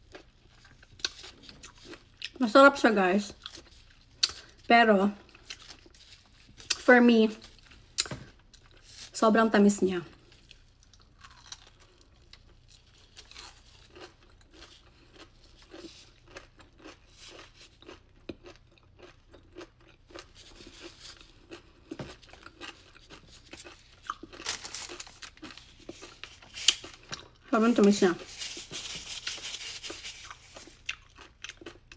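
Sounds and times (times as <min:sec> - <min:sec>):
chewing crunchy cookie: 0:00.0 - 0:02.5, 0:03.2 - 0:09.2, 0:10.0 - 0:31.9.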